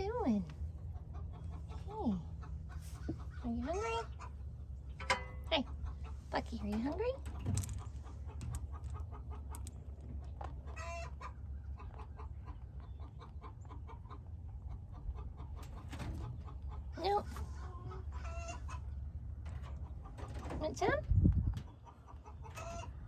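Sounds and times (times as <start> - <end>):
chickens clucking: 0.7 - 23.0.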